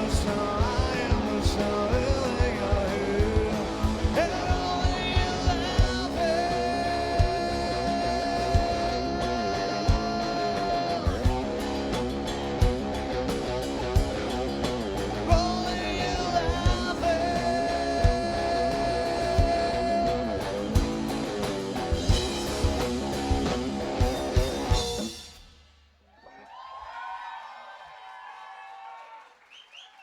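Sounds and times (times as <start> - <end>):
faint crowd noise: 0.0 - 25.2
electric guitar: 0.0 - 25.5
drums: 0.0 - 26.2.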